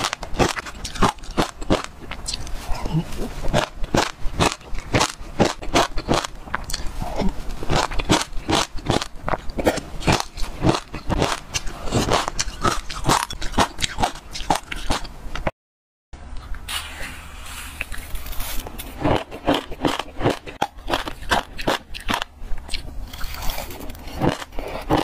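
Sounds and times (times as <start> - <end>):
crunchy chewing: 0.0 - 15.5, 17.8 - 25.0.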